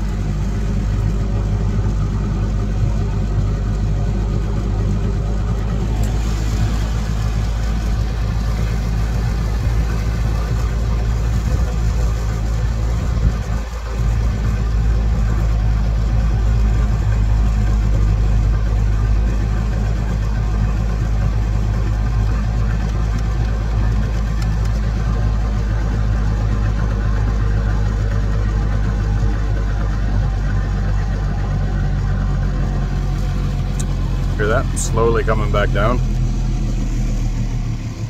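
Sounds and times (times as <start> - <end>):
outboard motor running: 0.0 - 38.0.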